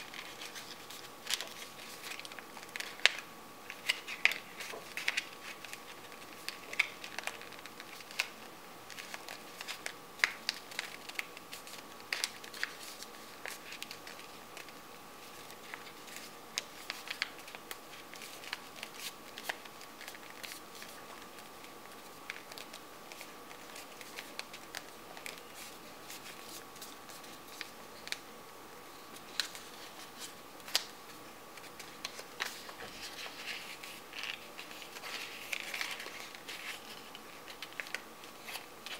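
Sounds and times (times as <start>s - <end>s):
paper crinkling and rustling: 0.0s - 28.2s, 28.9s - 38.9s
faint steady whine: 0.0s - 38.9s.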